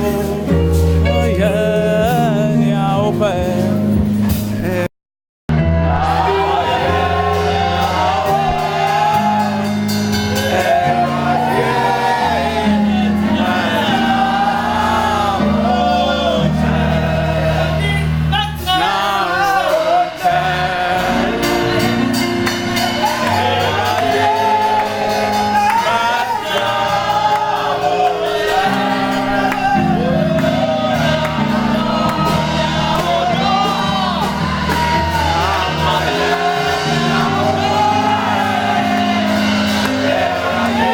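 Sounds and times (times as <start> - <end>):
voices singing: 0.0 - 3.8, 5.9 - 40.9
sustained instrumental chords: 5.5 - 40.9.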